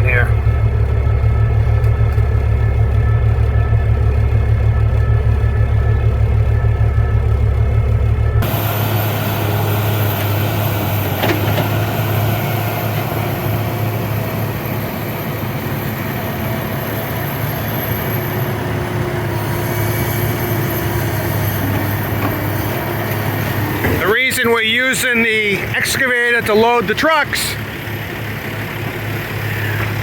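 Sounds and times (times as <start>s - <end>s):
heavy diesel engines running: 0.0s - 30.0s.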